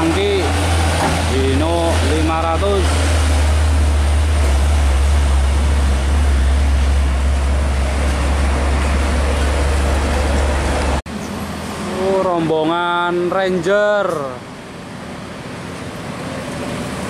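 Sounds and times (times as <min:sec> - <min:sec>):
passing traffic road noise: 0:00.0 - 0:17.0
truck diesel engine rumbling: 0:00.0 - 0:17.0.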